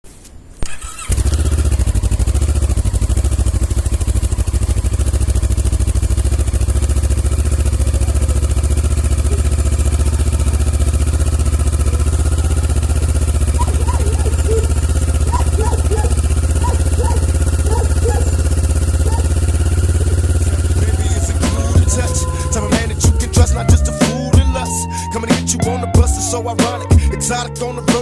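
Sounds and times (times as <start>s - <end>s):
motorcycle engine idling: 0.8s - 27.9s.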